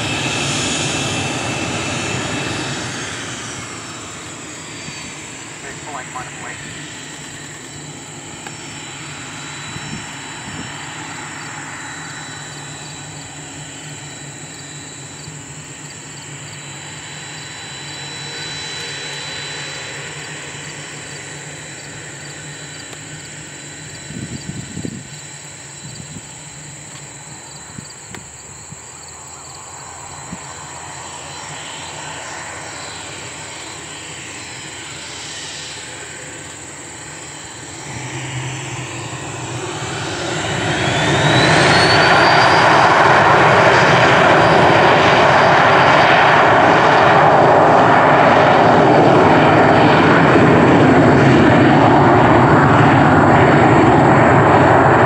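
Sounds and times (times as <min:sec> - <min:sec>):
jet engine whine: 0:00.0 - 0:55.0.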